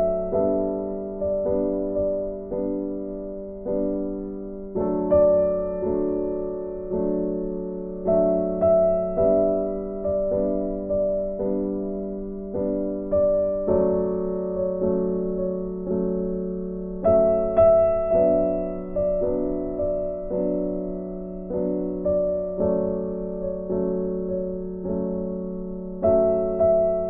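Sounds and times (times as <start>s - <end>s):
slow gentle piano music: 0.0s - 27.0s.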